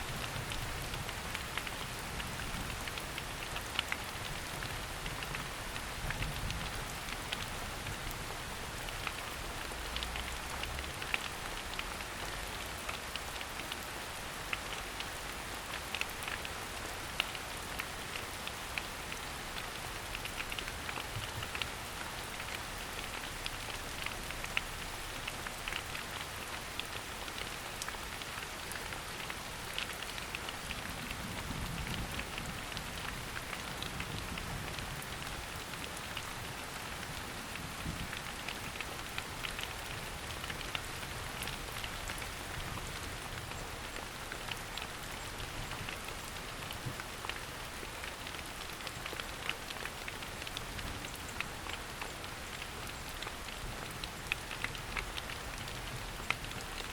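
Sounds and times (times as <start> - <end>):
rain hissing in forest: 0.0 - 56.9
raindrops ticking: 0.1 - 56.9.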